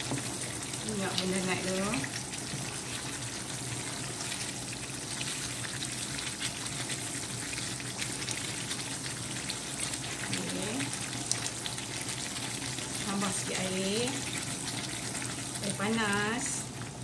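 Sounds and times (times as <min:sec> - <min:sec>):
curry bubbling and popping: 0:00.0 - 0:17.0
spatula stirring: 0:00.0 - 0:17.0.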